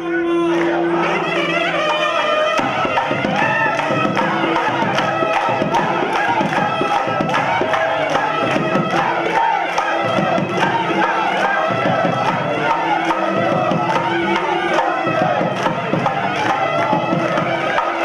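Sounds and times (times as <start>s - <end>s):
hand percussion: 0.6s - 18.0s
group singing devotional song: 2.6s - 18.0s.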